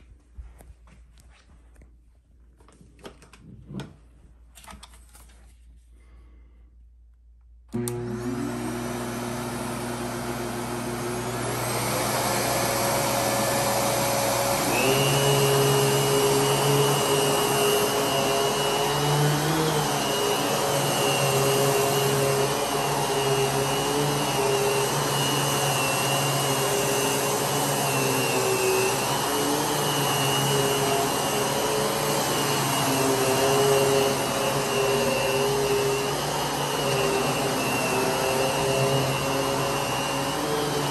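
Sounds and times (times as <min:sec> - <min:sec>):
vacuum cleaner running: 0:07.7 - 0:40.9.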